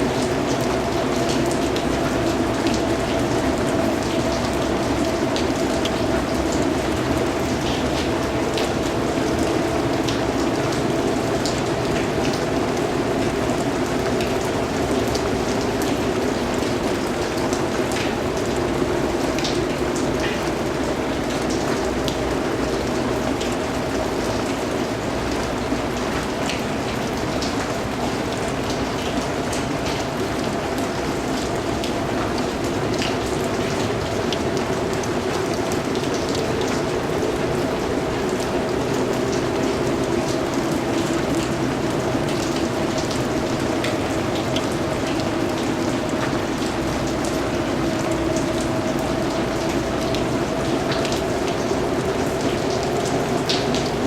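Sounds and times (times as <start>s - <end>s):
raindrops ticking on hard surface: 0.0s - 54.0s
steady rain falling: 0.0s - 54.0s.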